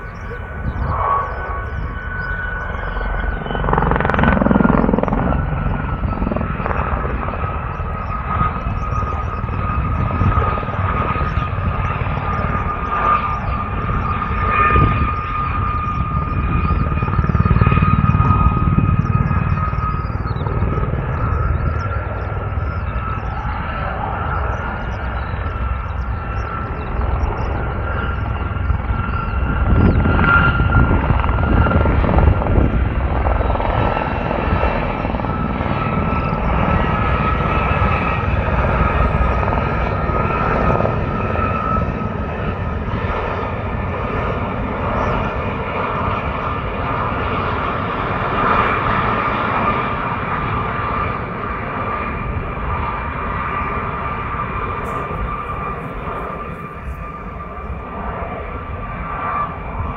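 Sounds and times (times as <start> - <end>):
aircraft engine flying past: 0.0 - 59.9
steady high whine: 0.0 - 59.9.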